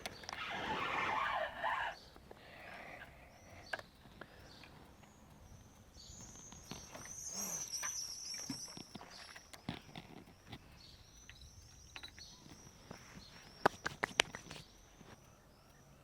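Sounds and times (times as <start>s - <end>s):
faint clicks and rustles: 0.0s - 16.0s
songbird twittering: 0.0s - 16.0s.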